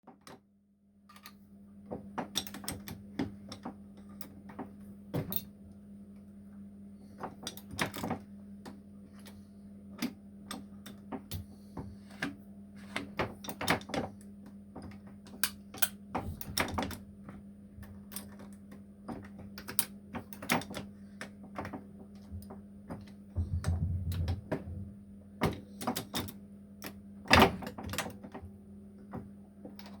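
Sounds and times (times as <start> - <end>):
steady low hum: 0.9 - 30.0.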